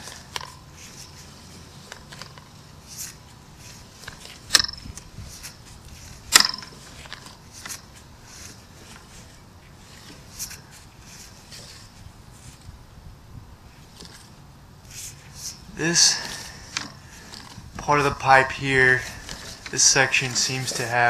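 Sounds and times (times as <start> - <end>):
cable handling noise: 0.0 - 12.7, 13.9 - 21.0.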